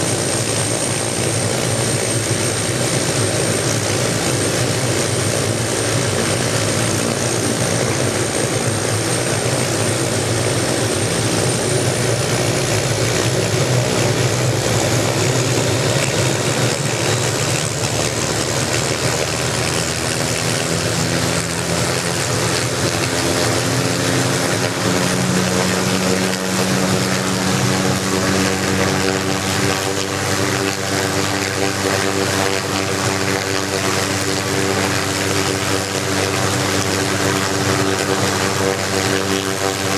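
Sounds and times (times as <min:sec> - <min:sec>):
helicopter rotor drone: 0:00.0 - 0:39.9
helicopter turbine whine: 0:00.0 - 0:39.9.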